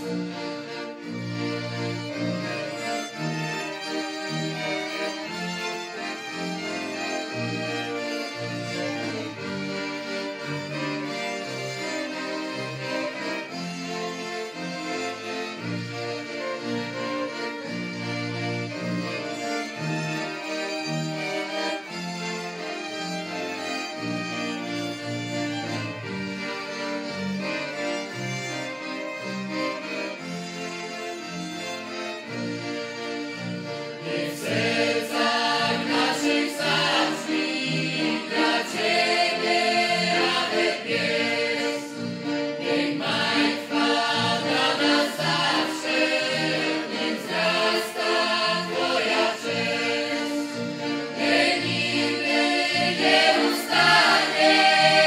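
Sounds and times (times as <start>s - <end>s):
folk music led by violin: 0.0s - 55.0s.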